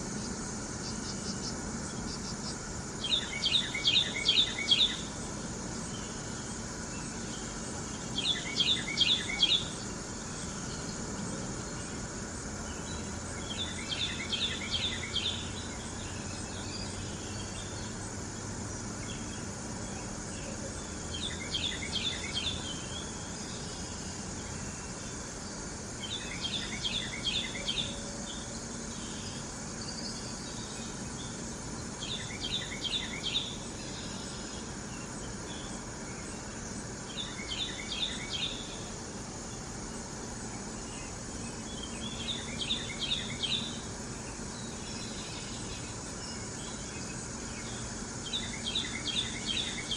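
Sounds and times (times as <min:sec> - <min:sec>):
summer insects droning: 0:00.0 - 0:49.9
wren singing rolling phrases: 0:00.0 - 0:49.9.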